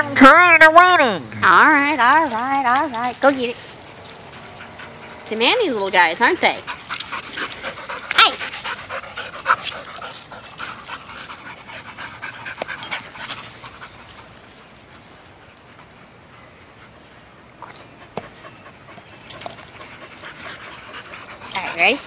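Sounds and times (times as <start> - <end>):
dog panting: 1.5 - 22.0.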